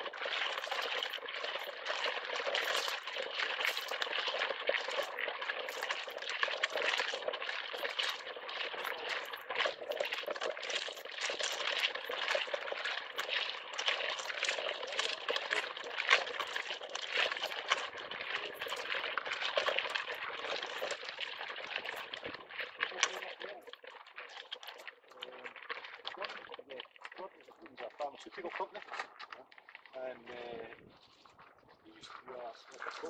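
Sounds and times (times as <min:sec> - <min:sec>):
rain pattering on clothing: 0:00.0 - 0:33.0.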